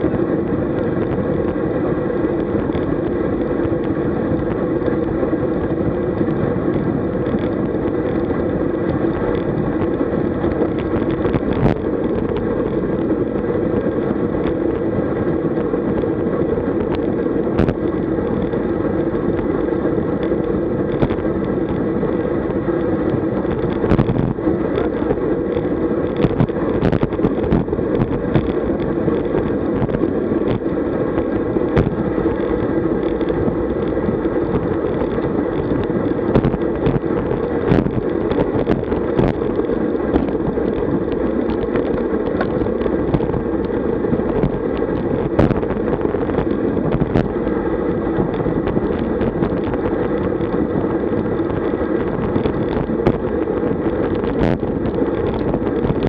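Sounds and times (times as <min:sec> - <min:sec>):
tyre and road noise: 0:00.0 - 0:56.0
wind rush on microphone: 0:00.0 - 0:56.0.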